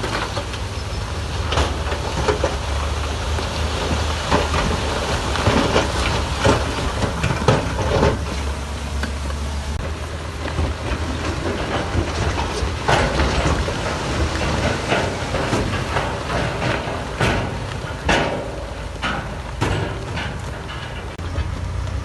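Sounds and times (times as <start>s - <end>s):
diesel engine running: 0.0s - 22.0s
metallic clanks and knocks: 0.0s - 22.0s.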